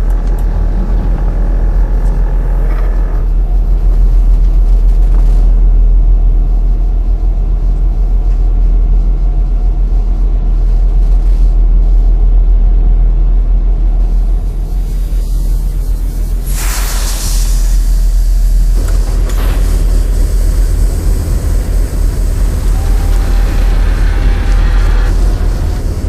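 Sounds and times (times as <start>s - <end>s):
deep rumbling drone: 0.0s - 26.0s.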